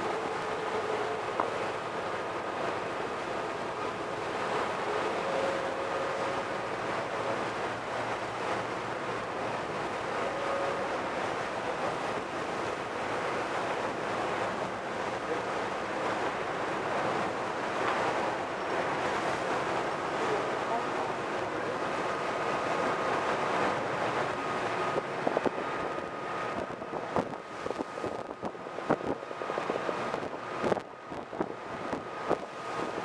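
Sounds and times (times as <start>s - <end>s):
boat wake rushing: 0.0s - 33.0s
rough sea: 0.0s - 33.0s
wind buffeting microphone: 0.0s - 33.0s.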